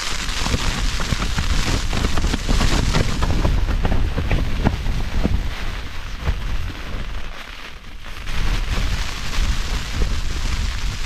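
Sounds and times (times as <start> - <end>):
fabric flapping: 0.0 - 11.0
rain pattering on nylon: 0.0 - 11.0
wind rumble on microphone: 0.0 - 11.0.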